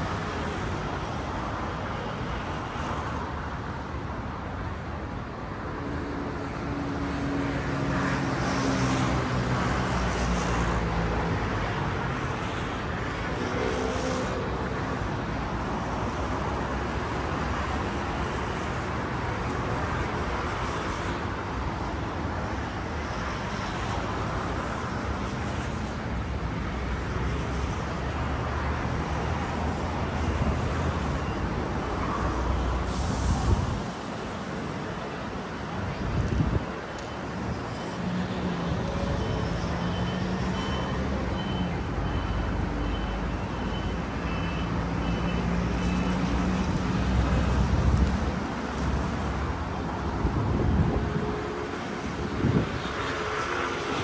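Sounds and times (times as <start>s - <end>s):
distant road traffic: 0.0s - 54.0s.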